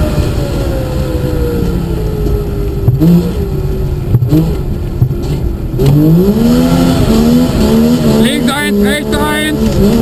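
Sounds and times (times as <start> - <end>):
two-stroke car engine: 0.0 - 10.0.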